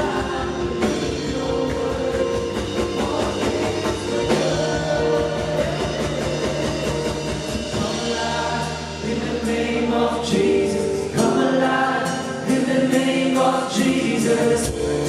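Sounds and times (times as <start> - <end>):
band playing instrumental: 0.0 - 15.0
drum kit steady beat: 0.0 - 15.0
guitar: 0.0 - 15.0.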